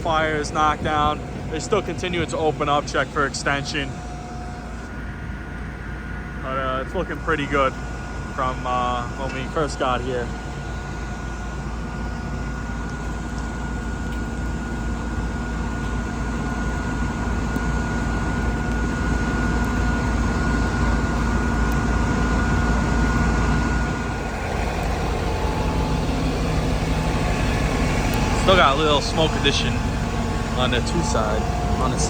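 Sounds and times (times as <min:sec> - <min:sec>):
diesel engines rumbling: 0:00.0 - 0:32.0
thin steady whine: 0:00.0 - 0:32.0.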